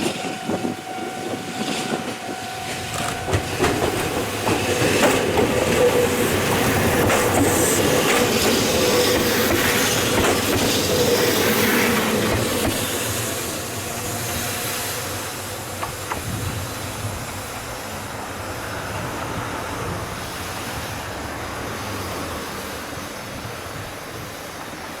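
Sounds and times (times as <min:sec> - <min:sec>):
electric train running past: 0:00.0 - 0:25.0.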